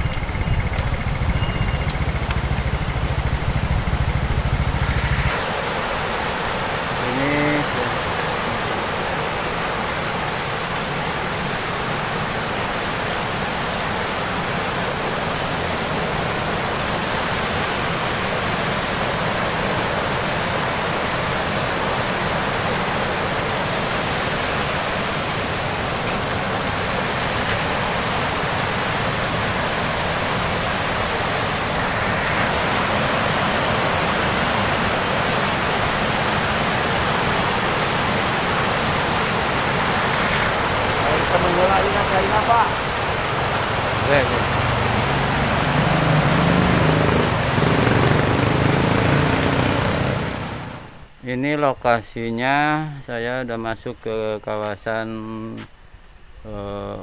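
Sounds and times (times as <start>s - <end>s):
stream rushing over rocks: 4.6s - 51.1s.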